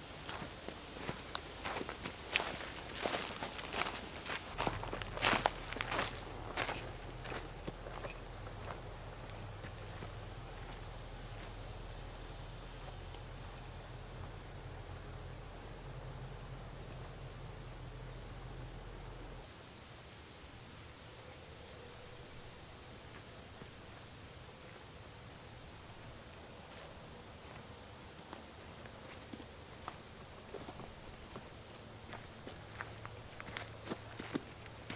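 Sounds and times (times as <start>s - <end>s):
insects trilling: 0.0s - 34.9s.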